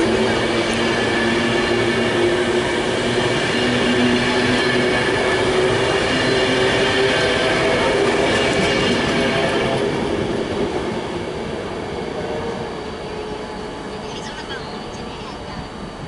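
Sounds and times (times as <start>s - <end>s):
train wheels rolling on rail: 0.0s - 16.0s
train whine: 0.0s - 16.0s.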